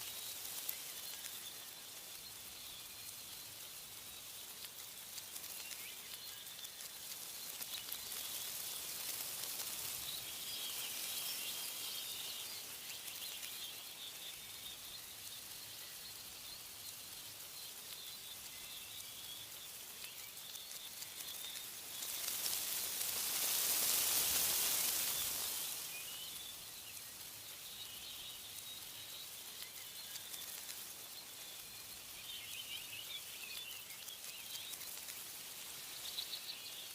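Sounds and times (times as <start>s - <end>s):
small birds chirping: 0.0s - 36.9s
wind rushing through leaves: 0.0s - 36.9s.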